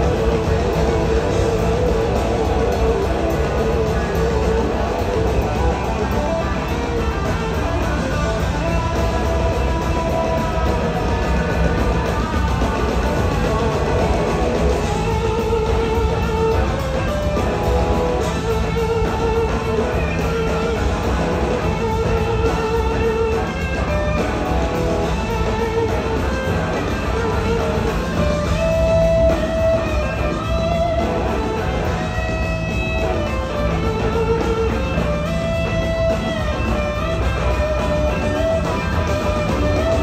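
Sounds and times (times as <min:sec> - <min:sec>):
drum kits: 0:00.0 - 0:40.0
electric guitars: 0:00.0 - 0:40.0
keyboards: 0:00.0 - 0:40.0.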